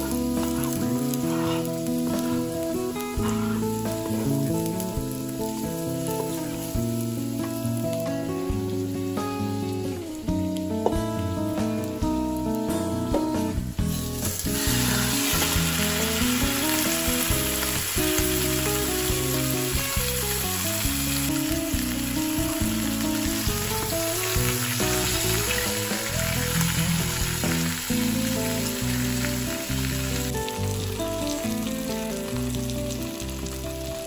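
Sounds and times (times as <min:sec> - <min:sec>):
chicken sizzling in hot oil: 0:00.0 - 0:12.6, 0:13.4 - 0:34.0.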